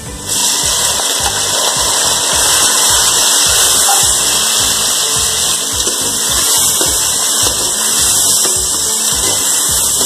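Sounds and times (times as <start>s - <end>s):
background music with a beat: 0.0s - 10.0s
tomatoes sizzling in oil: 0.0s - 10.0s.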